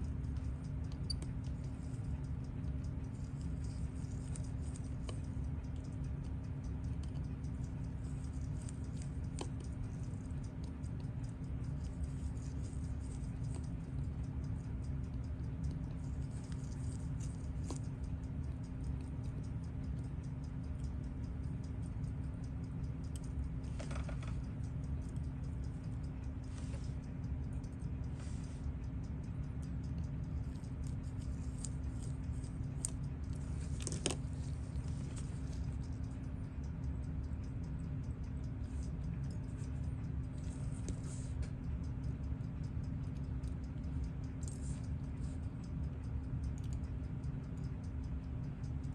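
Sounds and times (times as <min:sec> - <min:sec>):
steady low hum: 0:00.0 - 0:48.9
tweezers clicking on tiny parts: 0:00.0 - 0:48.9.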